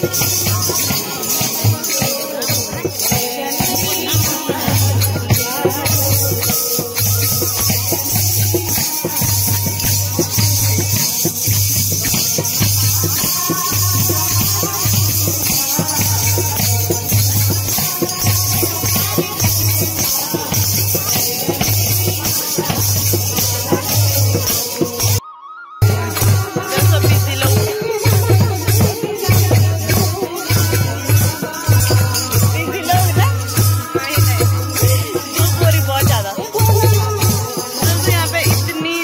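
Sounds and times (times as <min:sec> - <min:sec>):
rattling percussion: 0:00.0 - 0:25.2, 0:25.8 - 0:39.0.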